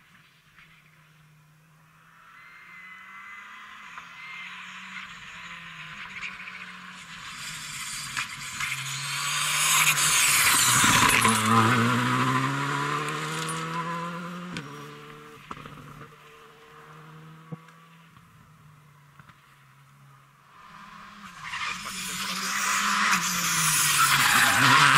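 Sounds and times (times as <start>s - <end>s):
rally car passing at speed: 0.1s - 24.9s.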